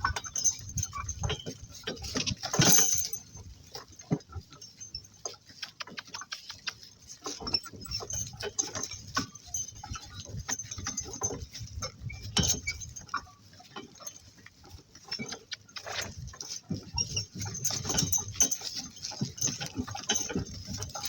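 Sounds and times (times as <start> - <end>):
donkey cart hooves and harness knocks: 0.0 - 21.0.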